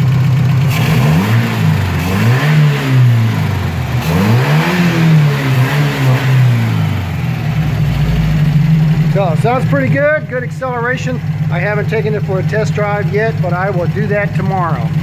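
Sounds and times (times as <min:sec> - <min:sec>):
car engine revving from idle: 0:00.0 - 0:15.0.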